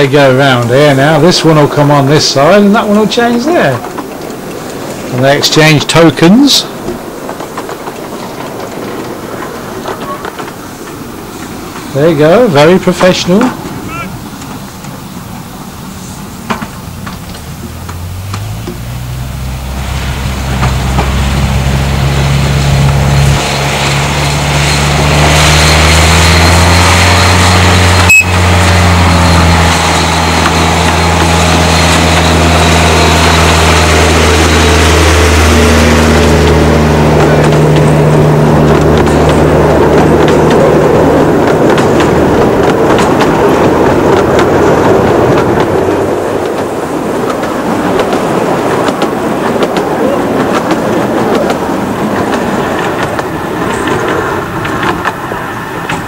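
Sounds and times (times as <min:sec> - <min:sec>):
even rushing noise: 0:00.0 - 0:56.0
locomotive engine running: 0:00.0 - 0:56.0.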